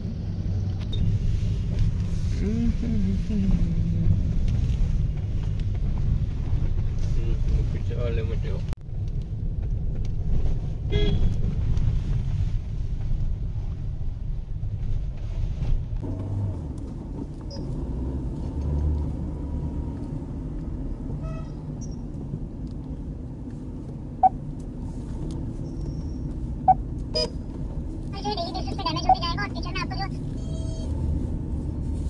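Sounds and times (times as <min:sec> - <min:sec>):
car engine and tyres rumbling: 0:00.0 - 0:32.0.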